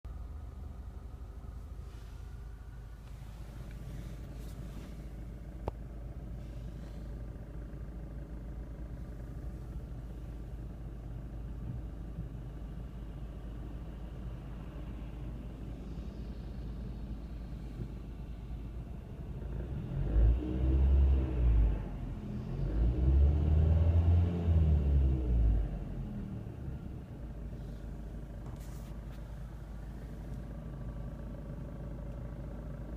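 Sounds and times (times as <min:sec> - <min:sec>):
car interior rumble: 0:00.1 - 0:32.9.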